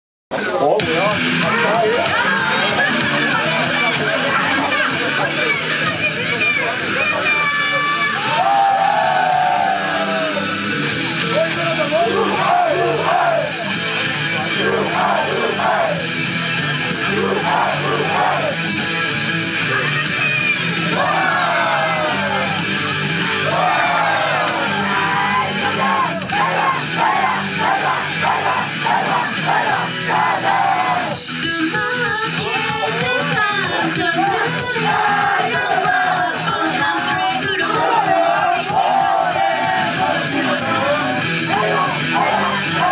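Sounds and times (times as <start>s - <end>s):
live rock pop music with singing: 0.3s - 42.9s.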